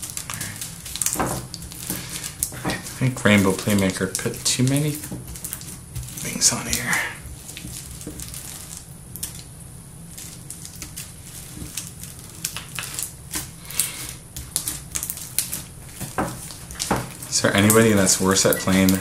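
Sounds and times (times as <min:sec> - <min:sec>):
slime with beads crackling: 0:00.0 - 0:19.0.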